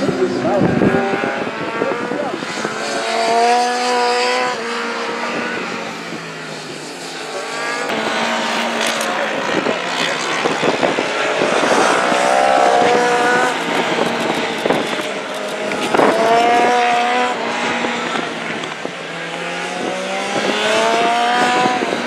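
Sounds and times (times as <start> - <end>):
motorcycle engines revving past: 0.0 - 22.0.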